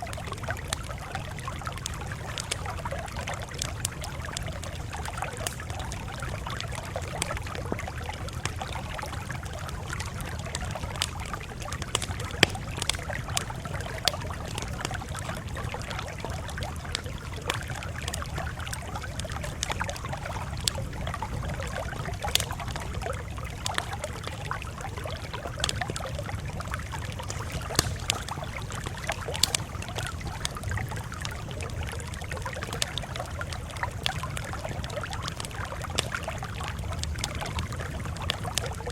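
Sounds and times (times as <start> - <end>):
campfire crackling: 0.0 - 38.9
low fire rumble: 0.0 - 38.9.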